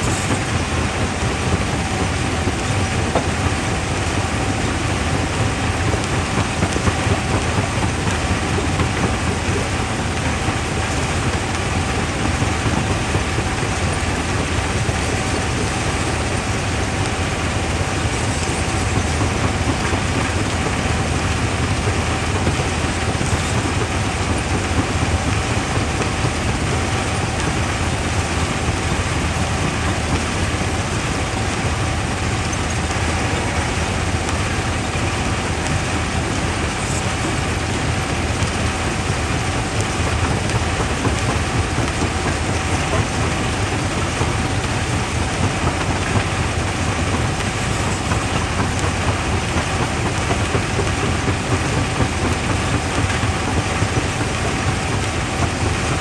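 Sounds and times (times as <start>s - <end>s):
crusher mechanical rumble: 0.0s - 56.0s
thin steady whine: 0.0s - 56.0s.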